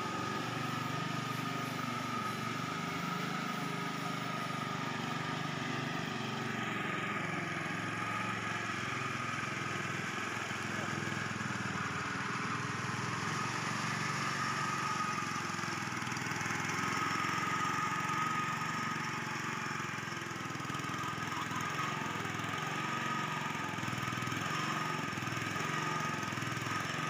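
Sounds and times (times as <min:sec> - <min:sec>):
small tiller engine running: 0:00.0 - 0:27.0.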